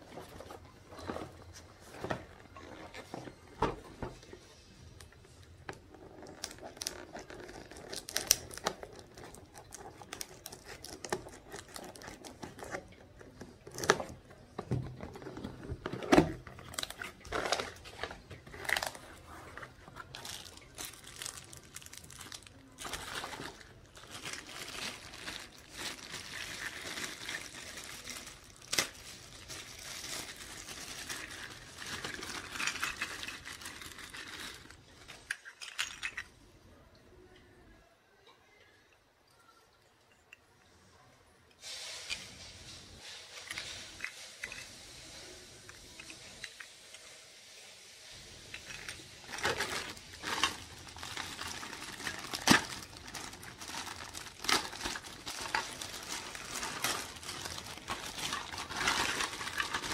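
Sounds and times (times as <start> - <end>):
plastic wrap crinkling: 0.0 - 36.3, 48.2 - 59.9.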